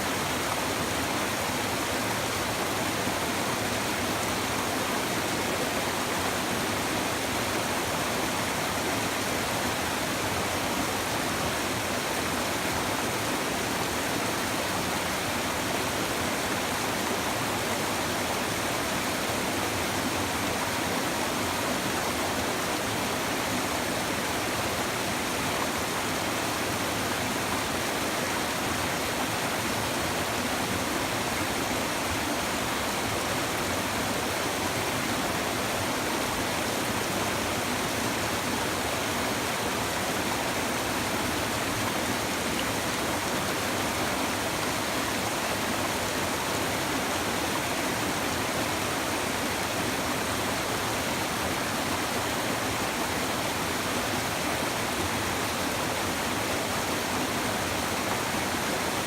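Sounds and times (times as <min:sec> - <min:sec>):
river babbling over stones: 0:00.1 - 0:59.0.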